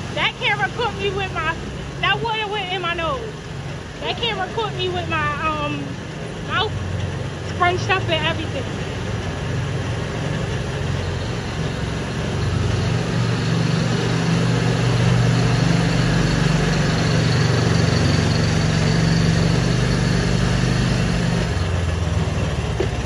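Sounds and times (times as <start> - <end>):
buggy engine droning: 0.0 - 23.0.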